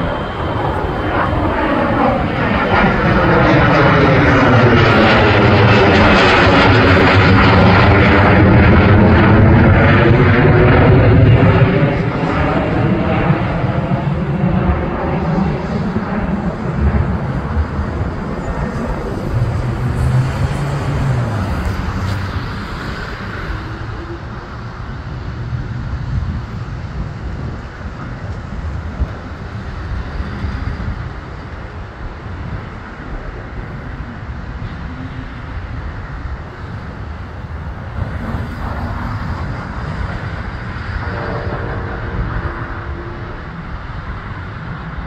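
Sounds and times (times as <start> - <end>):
jet aircraft landing rumble: 0.0 - 45.0.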